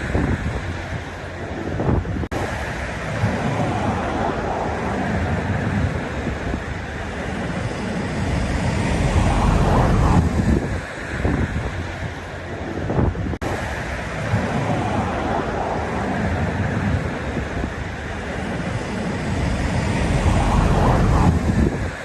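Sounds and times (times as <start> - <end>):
sea waves washing ashore: 0.0 - 22.0.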